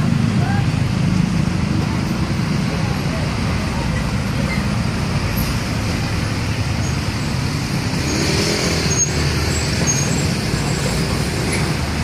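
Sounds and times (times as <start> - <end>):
diesel trucks rumbling past: 0.0 - 12.0
heavy road traffic: 0.0 - 12.0.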